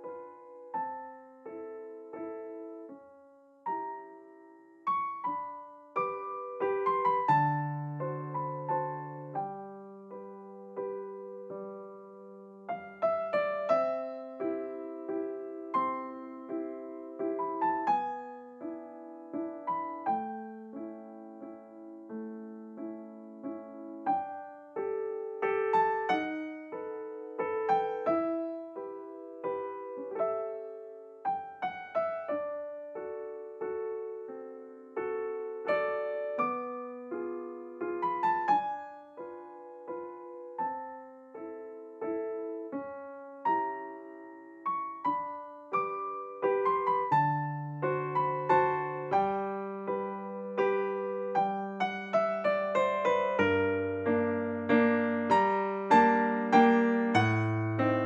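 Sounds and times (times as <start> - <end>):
gentle piano music: 0.0 - 58.0.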